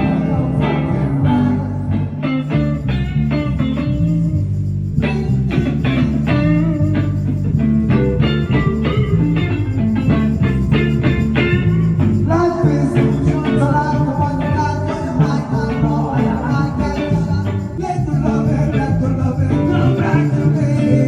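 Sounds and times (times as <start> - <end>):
bass guitar: 0.0 - 21.0
plucked guitar: 0.0 - 21.0.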